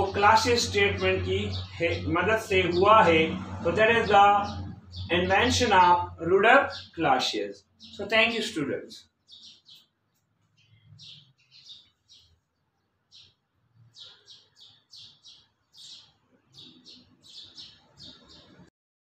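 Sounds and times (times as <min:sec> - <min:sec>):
small bird chirping: 0:00.0 - 0:18.7.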